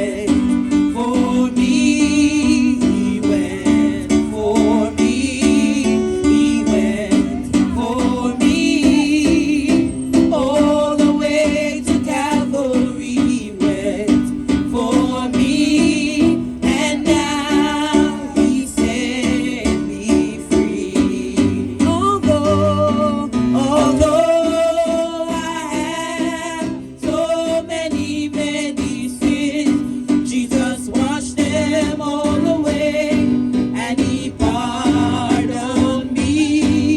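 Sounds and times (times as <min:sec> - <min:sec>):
gospel singing voices: 0:00.0 - 0:36.9.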